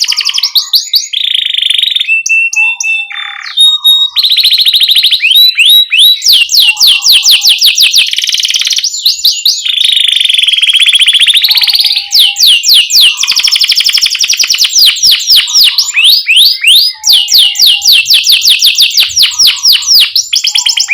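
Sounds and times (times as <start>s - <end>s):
canary singing chirps and trills: 0.0s - 20.9s.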